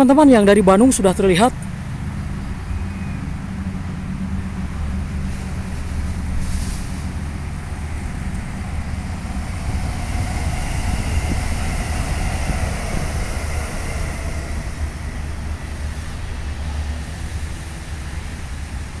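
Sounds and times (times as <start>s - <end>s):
electric train rushing rumble: 0.0s - 19.0s
faint whine: 0.0s - 19.0s.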